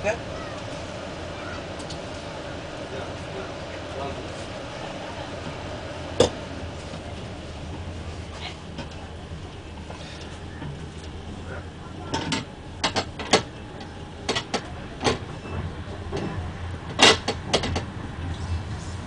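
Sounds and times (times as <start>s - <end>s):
train carriage low rumble: 0.0s - 19.0s.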